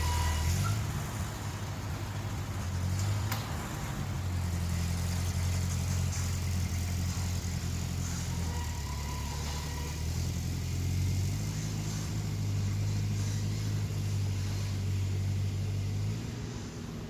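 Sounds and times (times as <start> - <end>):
engine running at low speed: 0.0 - 17.0.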